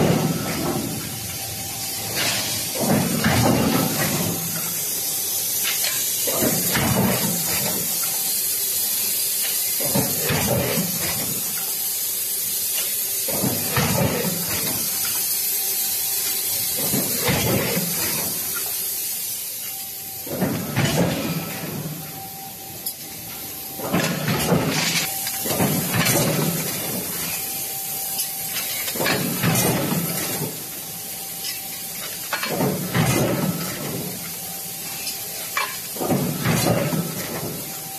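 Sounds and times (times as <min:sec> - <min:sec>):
forging press machinery hissing: 0:00.0 - 0:37.9.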